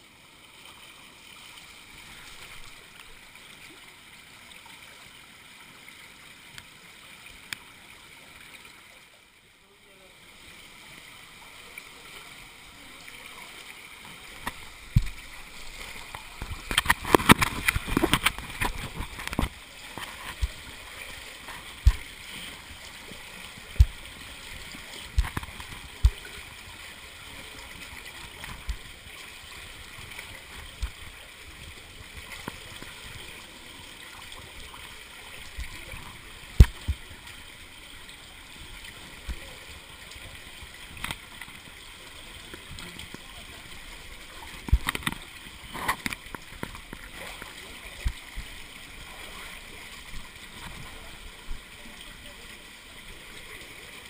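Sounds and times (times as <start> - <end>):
water splashing: 0.0 - 5.1, 10.9 - 54.0
water running through pipe: 0.0 - 54.0.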